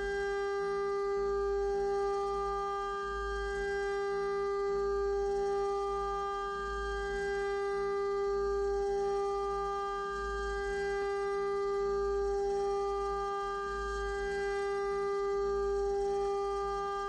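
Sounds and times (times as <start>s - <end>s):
milling spindle high-pitched whine: 0.0s - 17.0s.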